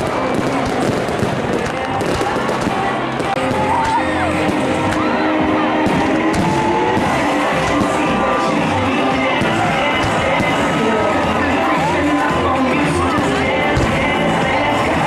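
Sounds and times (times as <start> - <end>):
crowd noise: 0.0 - 15.0
fireworks bangs and crackles: 0.0 - 15.0
loud music: 0.0 - 15.0.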